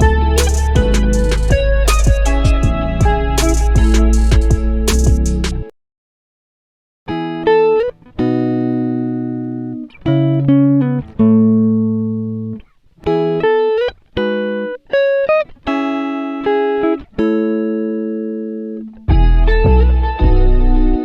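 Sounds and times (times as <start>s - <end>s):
plucked string music: 0.0s - 5.7s, 7.1s - 21.0s.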